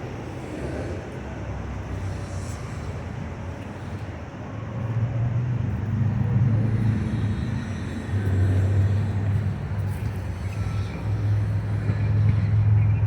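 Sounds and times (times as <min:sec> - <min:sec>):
road traffic rumble: 0:00.0 - 0:13.0
vehicle engine: 0:00.0 - 0:13.0.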